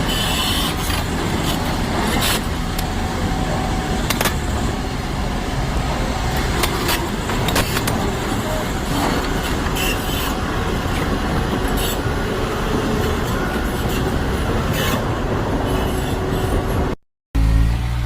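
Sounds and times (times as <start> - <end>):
heavy machine working: 0.0 - 17.8.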